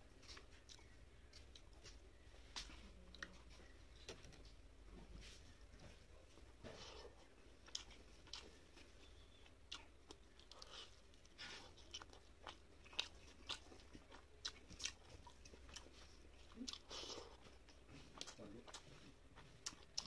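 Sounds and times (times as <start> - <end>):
chewing food: 0.0 - 5.0, 5.7 - 20.0.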